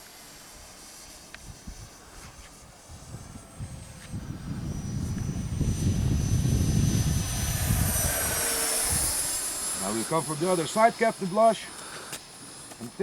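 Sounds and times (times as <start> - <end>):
electric ducted fan whine: 0.0 - 13.0.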